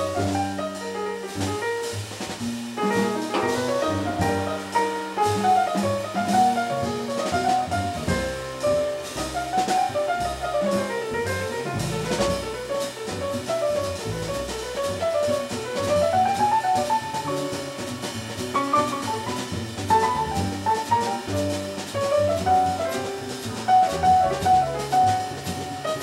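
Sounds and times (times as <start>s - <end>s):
drum kit with cymbals: 0.0s - 26.0s
grand piano melodic lines: 0.0s - 26.0s
upright double bass: 0.0s - 26.0s.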